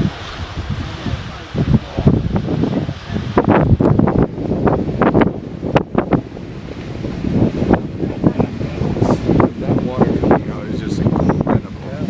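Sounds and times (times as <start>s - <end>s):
geyser water jet rushing: 0.0s - 12.0s.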